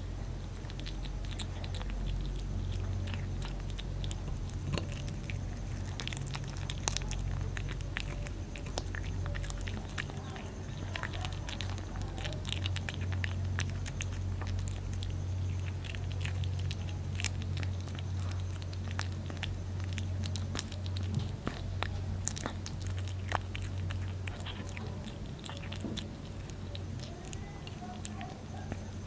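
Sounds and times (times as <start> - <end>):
kitten chewing fish: 0.0 - 29.0
steady low hum: 0.0 - 29.0.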